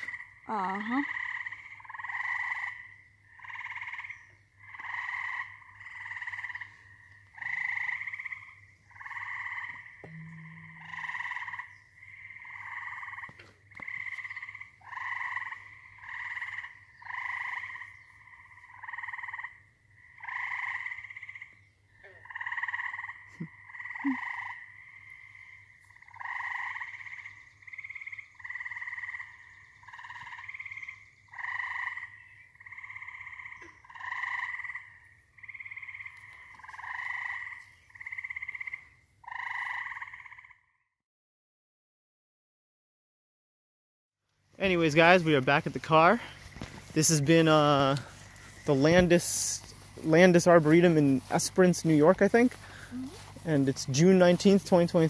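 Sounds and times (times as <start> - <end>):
frogs calling: 0.0 - 40.8, 44.6 - 55.0.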